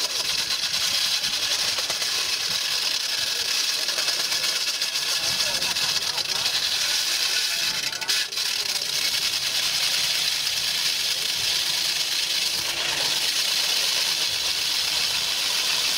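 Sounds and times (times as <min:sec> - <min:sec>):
core drill grinding into concrete: 0:00.0 - 0:15.9
power pack engine running: 0:00.0 - 0:15.9.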